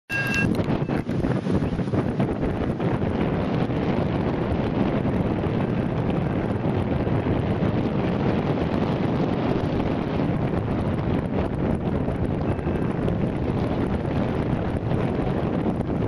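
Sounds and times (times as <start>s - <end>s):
wind rushing over microphone: 0.1s - 16.0s.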